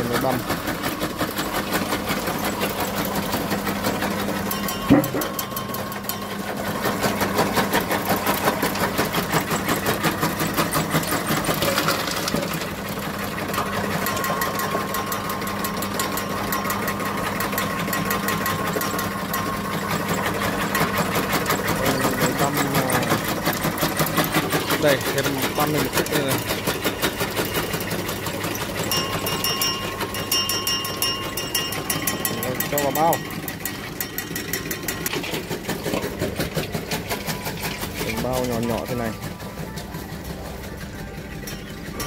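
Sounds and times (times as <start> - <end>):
motor hum: 0.0 - 42.0.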